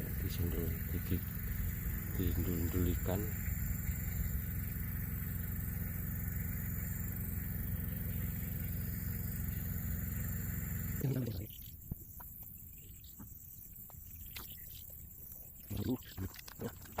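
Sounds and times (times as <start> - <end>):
motor running with high whine: 0.0 - 14.9.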